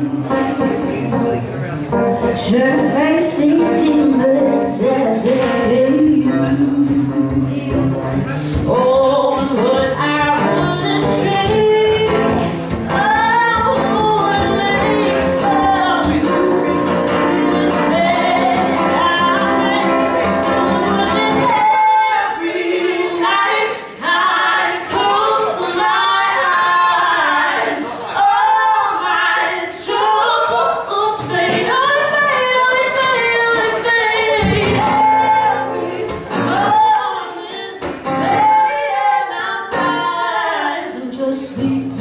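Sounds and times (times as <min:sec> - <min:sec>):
acoustic guitar: 0:00.0 - 0:42.0
woman singing: 0:02.2 - 0:42.0.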